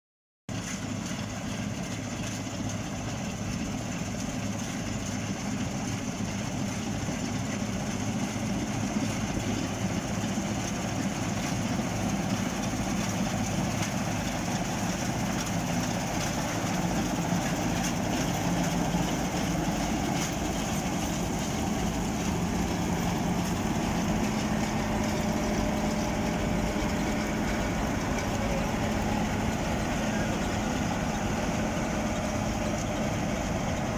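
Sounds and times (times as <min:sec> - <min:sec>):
combine harvester running: 0:00.5 - 0:33.9.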